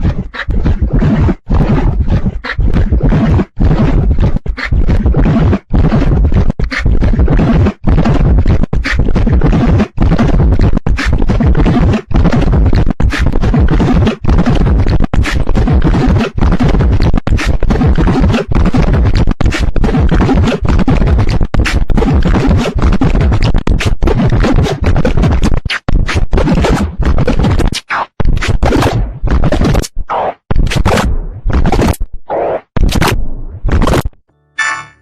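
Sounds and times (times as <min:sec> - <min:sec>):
distorted stuttering remix music: 0:00.0 - 0:35.0.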